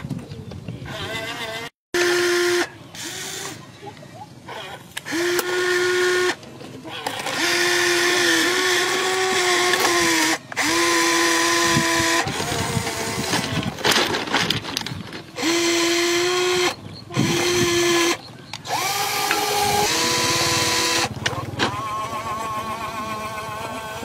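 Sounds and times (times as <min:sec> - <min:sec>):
electric gear motors whining: 0:00.8 - 0:03.6, 0:04.5 - 0:24.0.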